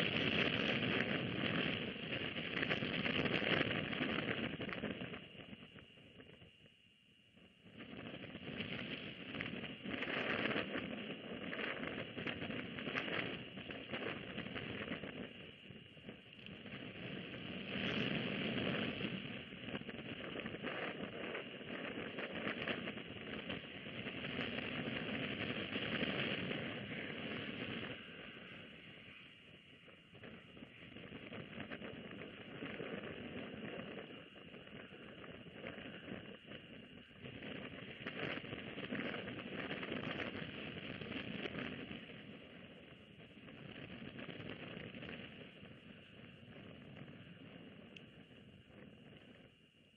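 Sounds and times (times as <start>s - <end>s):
high-pitched hiss: 0.0s - 49.9s.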